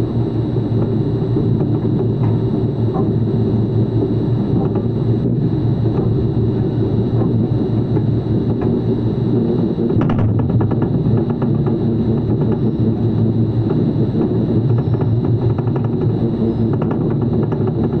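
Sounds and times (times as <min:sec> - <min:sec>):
high-pitched whine: 0:00.0 - 0:18.0
low mechanical rumble: 0:00.0 - 0:18.0.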